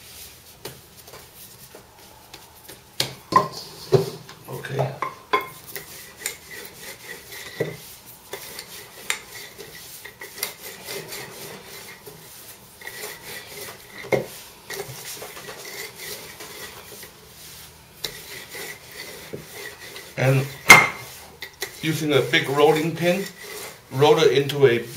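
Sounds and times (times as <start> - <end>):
rolling pin rolling dough: 0.0 - 24.9.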